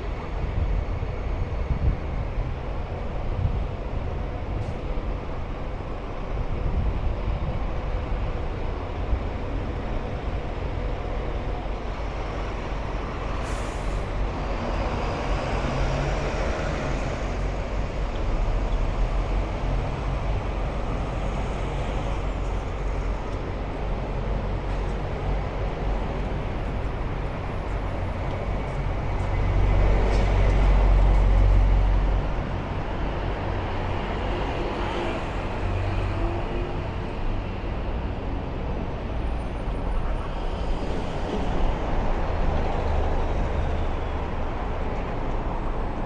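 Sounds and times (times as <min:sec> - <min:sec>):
rumble of passing vehicles: 0:00.0 - 0:46.0.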